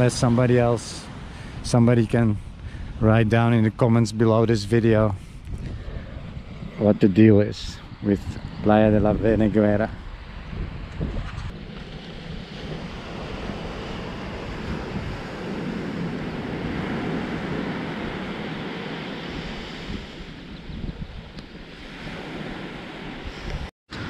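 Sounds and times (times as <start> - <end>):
ocean surf washing onto beach: 0.0 - 5.2, 5.8 - 24.0
wind on microphone: 0.0 - 24.0.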